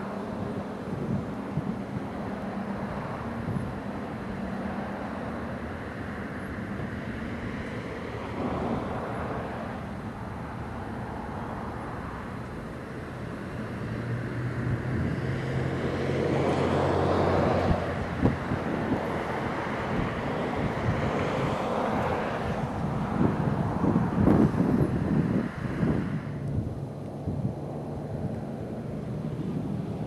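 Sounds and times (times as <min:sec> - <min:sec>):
approaching engine hum: 0:00.0 - 0:30.0
background traffic engines: 0:00.0 - 0:30.0.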